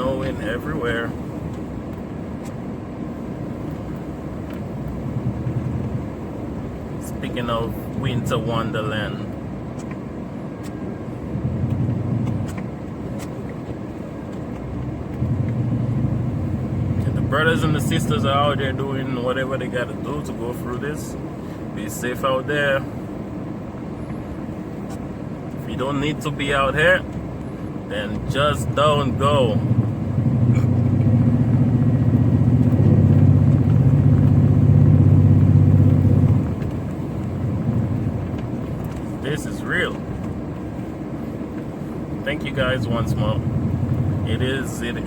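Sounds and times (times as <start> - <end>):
engine and road rumble: 0.0 - 45.0.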